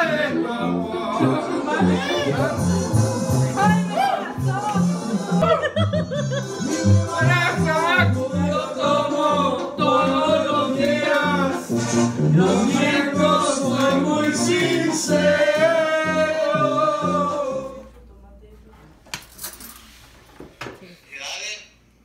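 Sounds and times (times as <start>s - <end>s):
latin song with sung vocal: 0.0s - 18.1s.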